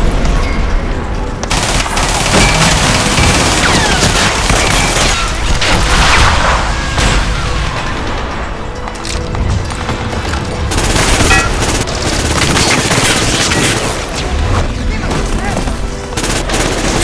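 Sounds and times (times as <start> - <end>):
background music: 0.0 - 17.0
gunshots and automatic fire: 0.0 - 17.0.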